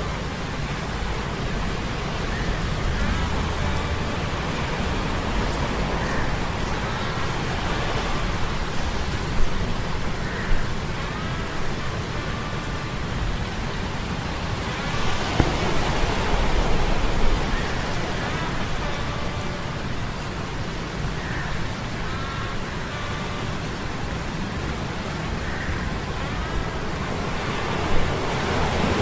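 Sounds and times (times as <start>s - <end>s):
rain and surf rushing: 0.0s - 29.0s.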